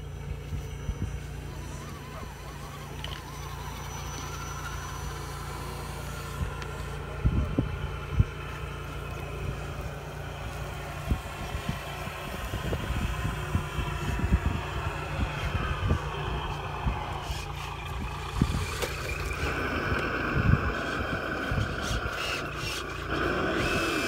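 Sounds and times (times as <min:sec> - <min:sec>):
low rumble: 0:00.0 - 0:24.0
toy truck electric motors whining: 0:00.0 - 0:24.0
wind buffeting microphone: 0:04.7 - 0:24.0.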